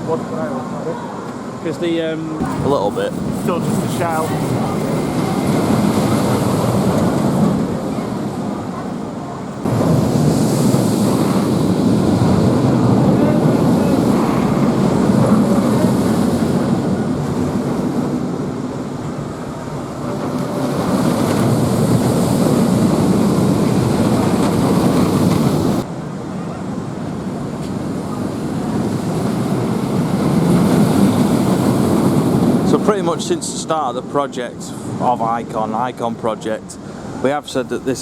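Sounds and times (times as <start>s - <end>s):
wind buffeting microphone: 0.8s - 33.5s.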